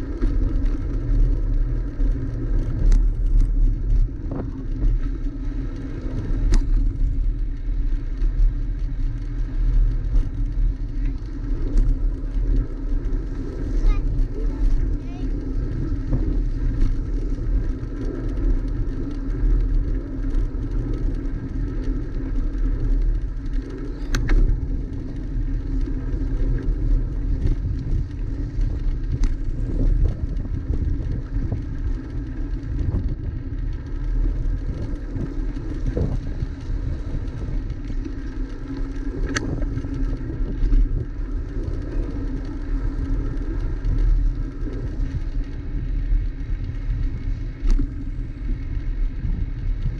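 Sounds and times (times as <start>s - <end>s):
bike tyres rolling on asphalt: 0.0s - 49.9s
wind rumble on microphone: 0.0s - 49.9s.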